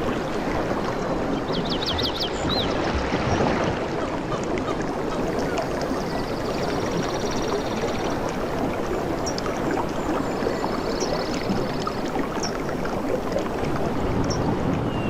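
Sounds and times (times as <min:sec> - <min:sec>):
water splashing and gurgling: 0:00.0 - 0:15.0.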